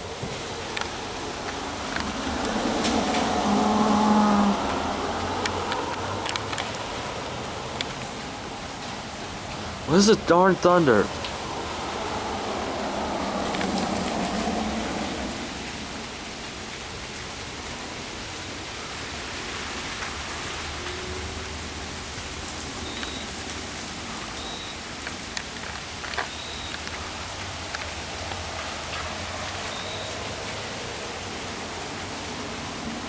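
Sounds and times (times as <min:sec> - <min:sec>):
steady rain hiss: 0:00.0 - 0:33.0.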